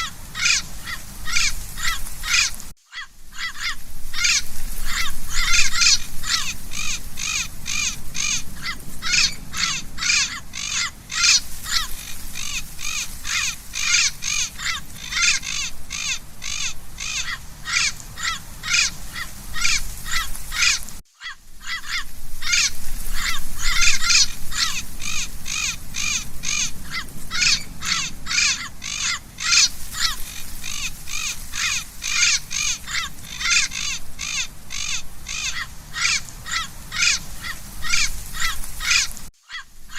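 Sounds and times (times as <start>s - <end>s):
parrot squawking: 0.0s - 39.7s.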